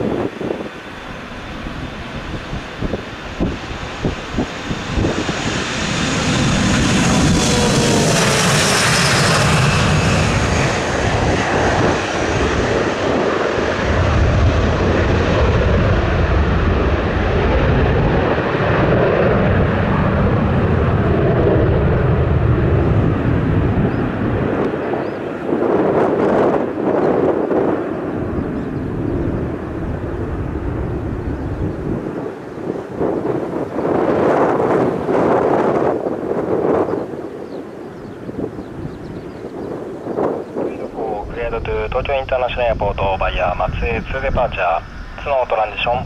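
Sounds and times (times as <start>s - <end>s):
airliner engines roaring: 0.0s - 46.0s.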